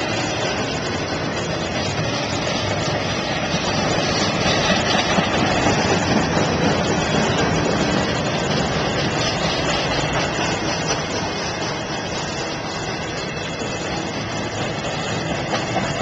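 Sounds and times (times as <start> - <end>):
freight train wheels on track: 0.0 - 16.0.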